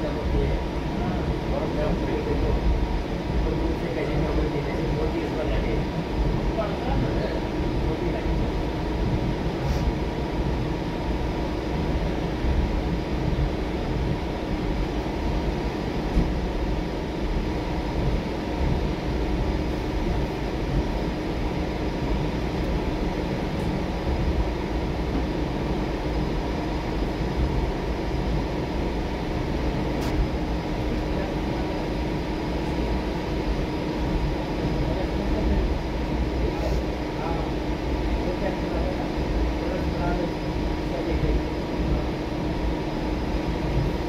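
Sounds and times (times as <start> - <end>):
train rumbling: 0.0 - 40.2
constant hum: 0.0 - 44.0.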